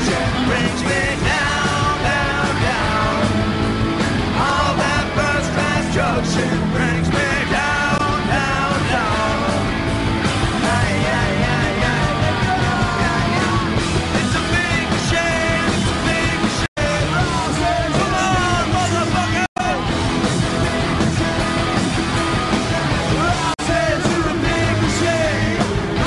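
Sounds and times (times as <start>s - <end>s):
hard rock music: 0.0s - 26.0s.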